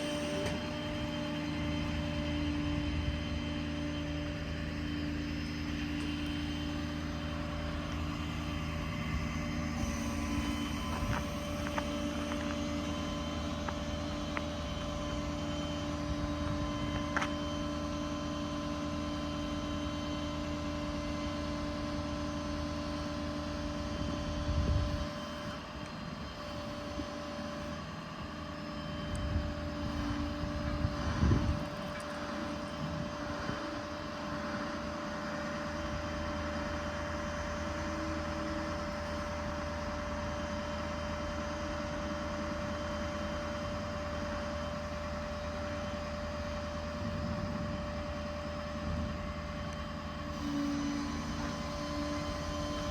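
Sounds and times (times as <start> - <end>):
diesel engine droning: 0.0 - 52.9
hydraulic whine: 0.0 - 52.9.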